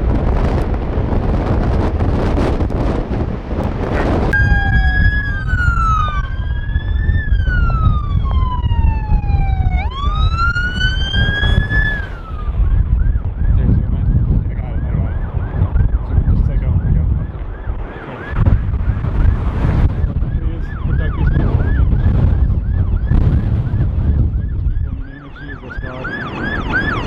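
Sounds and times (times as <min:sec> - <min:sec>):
wind buffeting microphone: 0:00.0 - 0:27.0
police car siren: 0:04.0 - 0:27.0.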